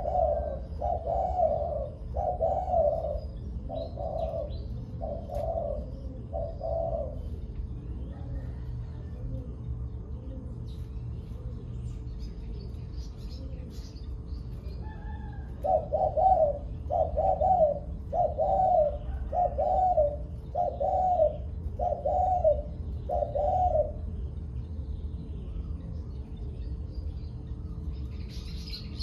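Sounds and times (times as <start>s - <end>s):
dove cooing: 0.0s - 24.6s
small birds chirping: 0.0s - 29.0s
steady low hum: 0.0s - 29.0s.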